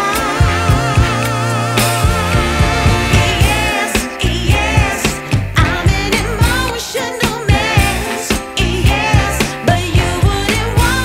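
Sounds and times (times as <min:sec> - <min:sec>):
person singing with vibrato: 0:00.0 - 0:11.0
steady beat: 0:00.0 - 0:11.0.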